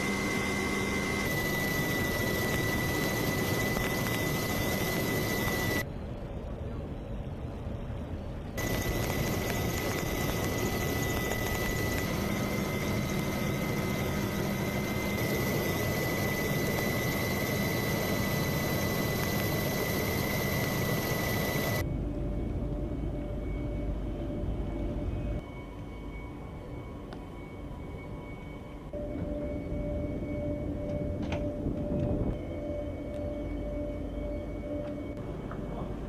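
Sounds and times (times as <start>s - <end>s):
mechanical running noise with whine: 0.0s - 36.0s.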